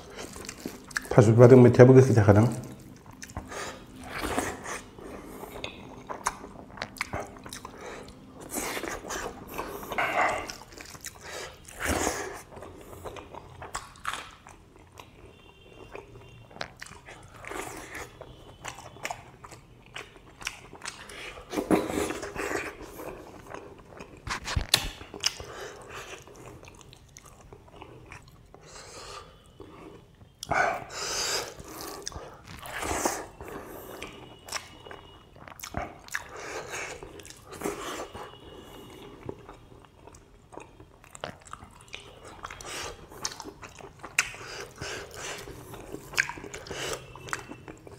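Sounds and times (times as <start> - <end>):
close chewing with wet smacks: 0.0 - 1.2, 2.4 - 28.7, 31.5 - 47.9.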